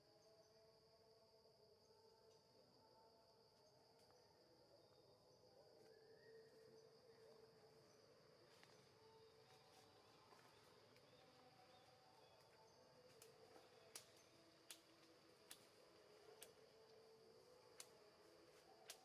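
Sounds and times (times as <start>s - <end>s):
high insect drone: 0.1s - 19.0s.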